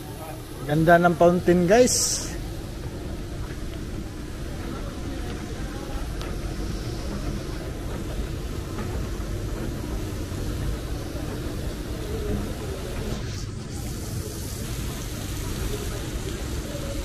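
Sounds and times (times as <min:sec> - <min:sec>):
mall background rumble and hiss: 0:00.0 - 0:17.0.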